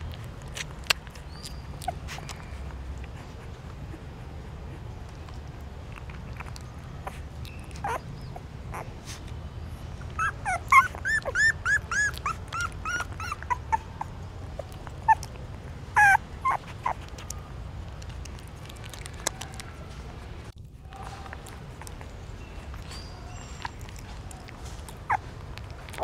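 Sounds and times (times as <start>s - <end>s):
puppies squeaking and whimpering: 0.0s - 20.4s, 21.0s - 26.0s.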